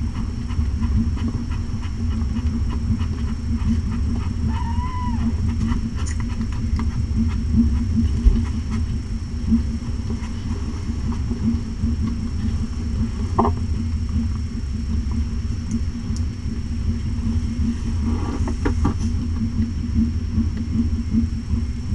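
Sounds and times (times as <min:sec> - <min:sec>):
low background rumble: 0:00.0 - 0:21.9.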